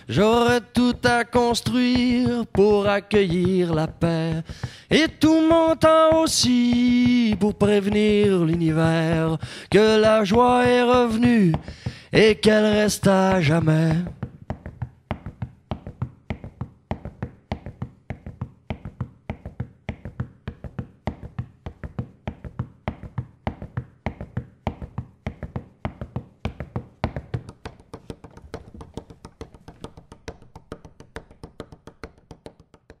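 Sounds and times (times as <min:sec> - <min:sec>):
fast rhythmic tapping percussion: 0:00.0 - 0:33.0.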